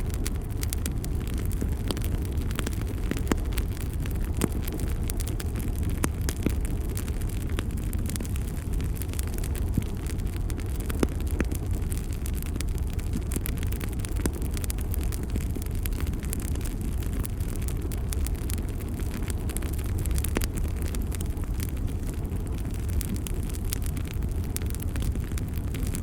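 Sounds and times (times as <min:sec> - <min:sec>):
fire crackles and pops: 0:00.0 - 0:26.0
low rumble of flame: 0:00.0 - 0:26.0.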